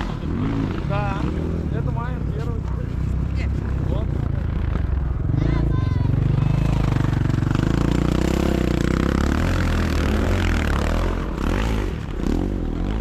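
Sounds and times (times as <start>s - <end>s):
motocross motorcycles racing: 0.0s - 13.0s.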